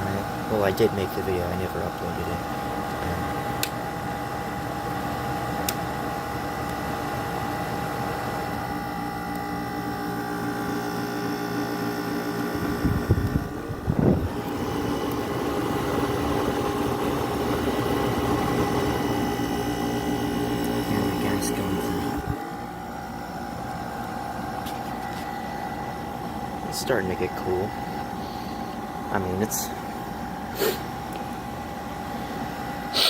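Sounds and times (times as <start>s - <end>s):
air conditioner humming and whining: 0.0s - 33.0s.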